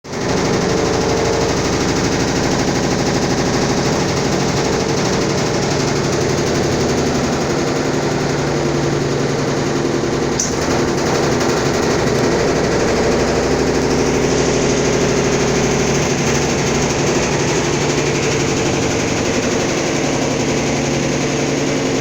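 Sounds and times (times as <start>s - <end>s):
washing machine rattling clatter: 0.0s - 22.0s.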